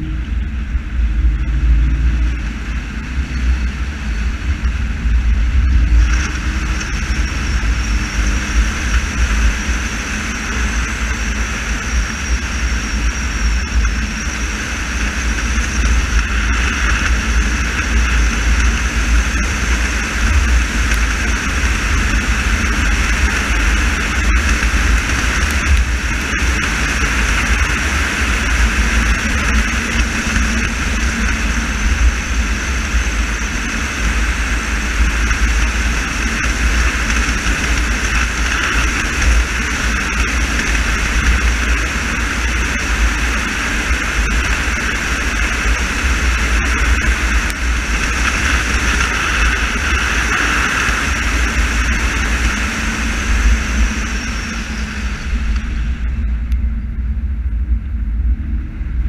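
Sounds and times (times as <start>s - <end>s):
car driving: 0.0s - 58.6s.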